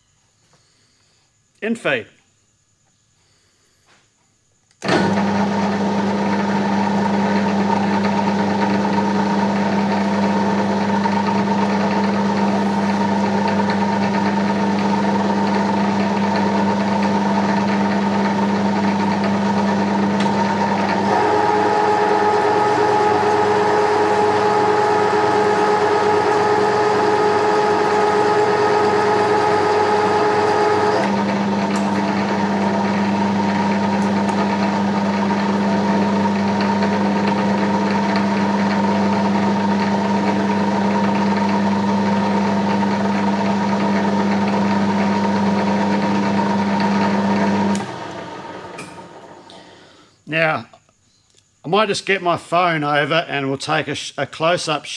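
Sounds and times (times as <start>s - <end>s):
lathe whining: 4.8s - 49.8s.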